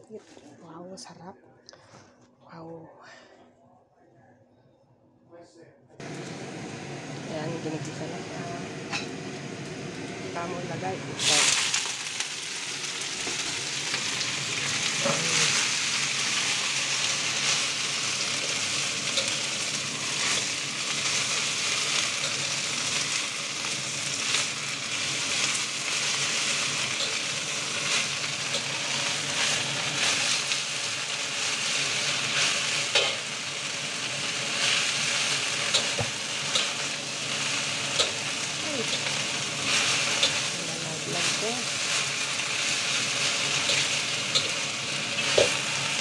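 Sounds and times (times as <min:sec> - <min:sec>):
spinach sizzling in a wok: 0:06.0 - 0:46.0.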